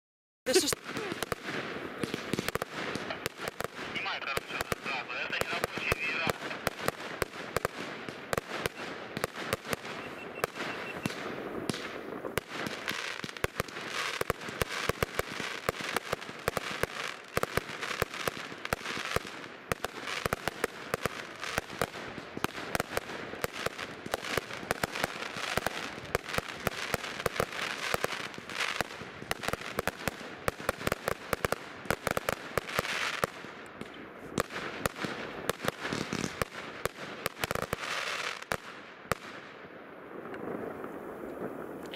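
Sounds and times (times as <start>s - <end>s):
fireworks bangs and crackles: 0.5s - 41.9s.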